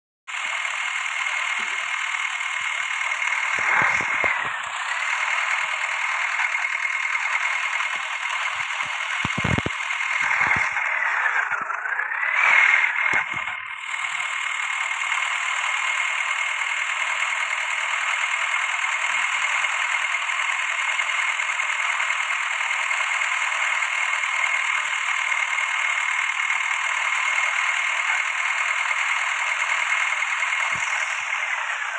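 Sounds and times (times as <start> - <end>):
tractor engine whine: 0.3 - 31.9.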